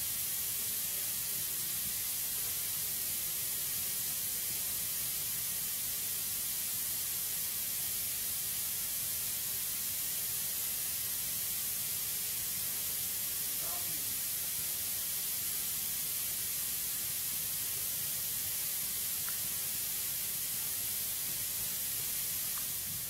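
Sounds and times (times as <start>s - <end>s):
high-pitched hiss: 0.0s - 23.0s.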